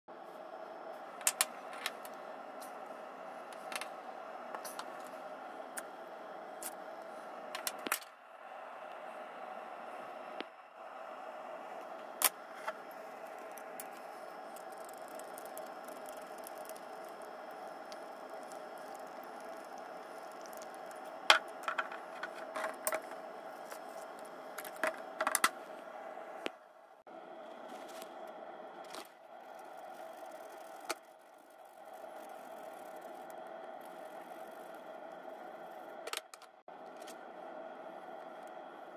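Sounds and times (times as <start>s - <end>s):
steady background hum: 0.1s - 38.9s.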